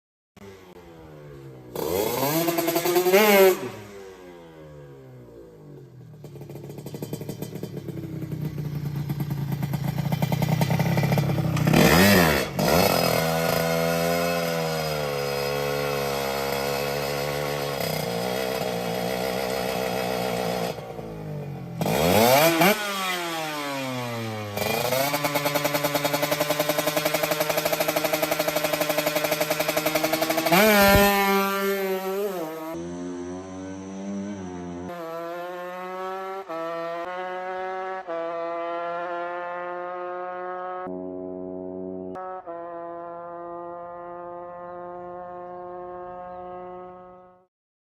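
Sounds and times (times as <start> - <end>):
motorcycle engine revving: 0.4 - 47.5.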